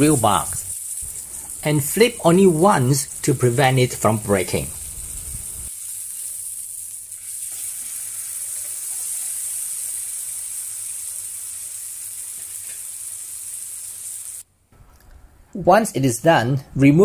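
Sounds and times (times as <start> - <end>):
fish sizzling in a pan: 0.0 - 14.5.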